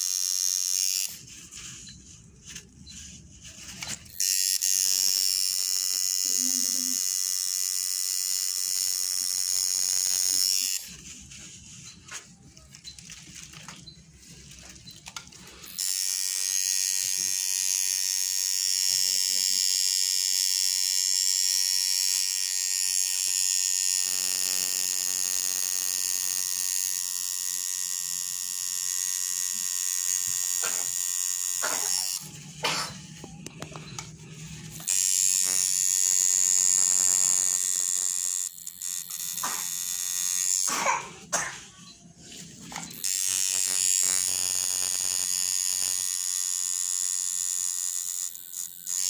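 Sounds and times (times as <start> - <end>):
tattoo machine buzzing: 0.0 - 14.0, 14.7 - 49.0.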